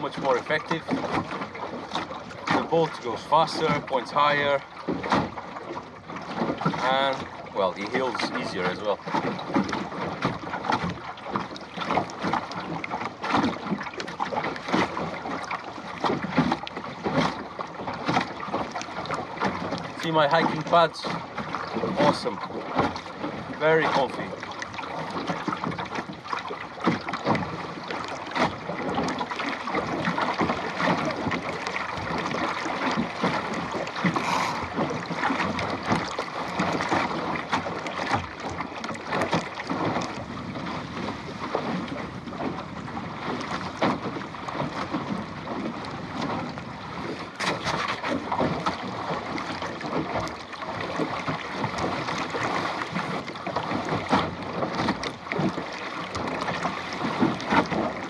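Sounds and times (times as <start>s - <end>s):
water slapping against boat hull: 0.0s - 58.0s.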